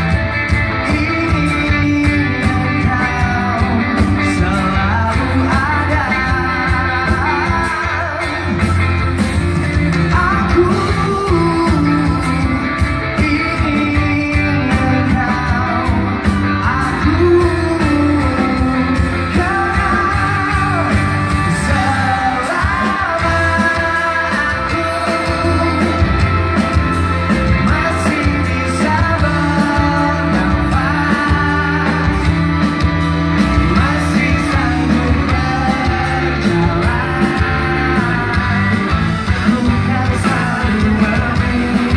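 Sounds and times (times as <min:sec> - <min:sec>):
bass guitar: 0:00.0 - 0:41.9
drums: 0:00.0 - 0:41.9
electric guitar: 0:00.0 - 0:41.9
man singing: 0:00.0 - 0:41.9.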